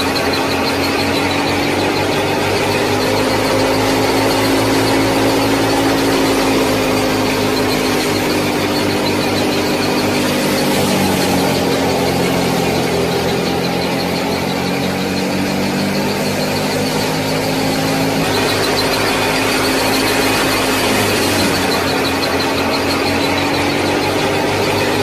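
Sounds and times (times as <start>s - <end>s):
small motor whining: 0.0s - 25.0s.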